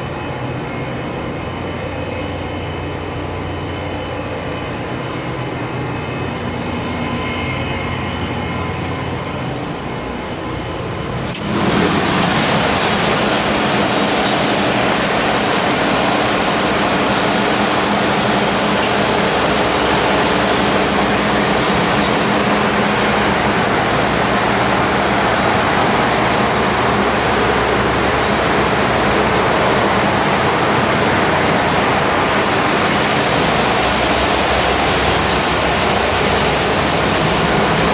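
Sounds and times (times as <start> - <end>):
engine room machinery drone: 0.0 - 37.9.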